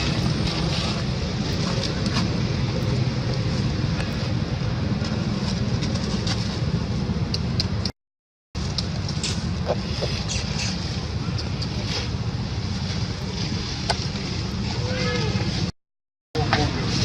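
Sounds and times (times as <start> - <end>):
wind rumble on microphone: 0.0 - 7.9, 8.6 - 15.7.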